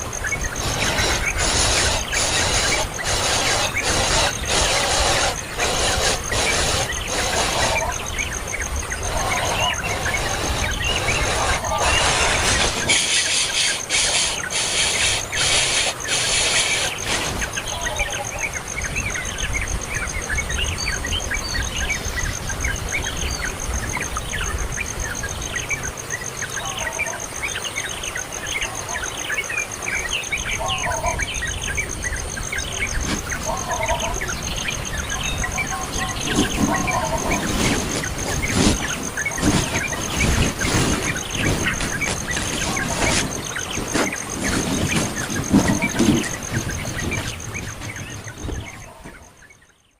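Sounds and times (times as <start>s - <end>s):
birds squealing: 0.0s - 49.7s
birds chirping: 0.0s - 49.9s.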